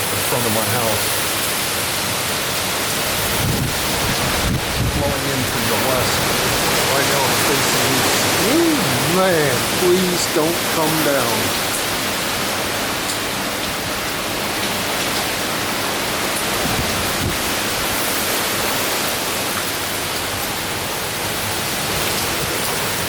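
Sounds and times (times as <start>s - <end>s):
hurricane wind and driven rain: 0.0s - 23.0s.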